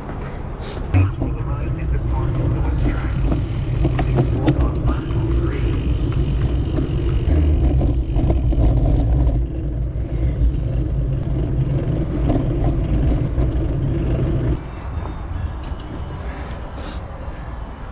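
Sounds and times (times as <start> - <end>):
bicycle road noise: 0.0 - 17.9
wind rumble on microphone: 1.0 - 16.0.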